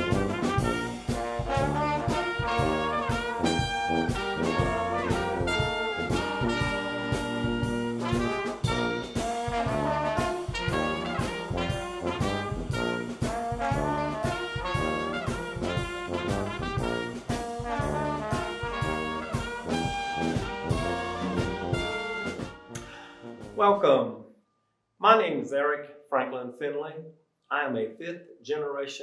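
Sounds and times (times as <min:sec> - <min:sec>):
brass band playing jazz: 0:00.0 - 0:23.9.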